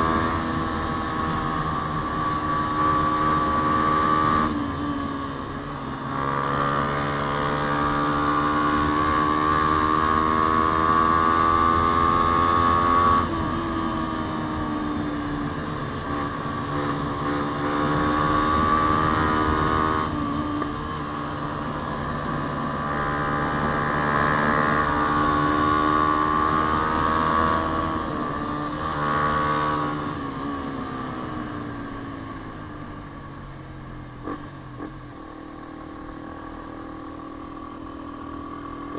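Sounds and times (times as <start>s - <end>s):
motorcycle engine shifting gears: 0.0s - 33.2s.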